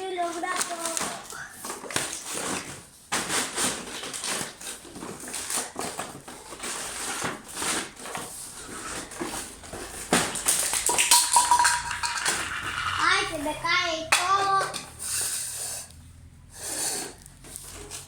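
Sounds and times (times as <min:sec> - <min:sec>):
plastic toys clattering: 0:00.0 - 0:15.9, 0:16.8 - 0:18.0.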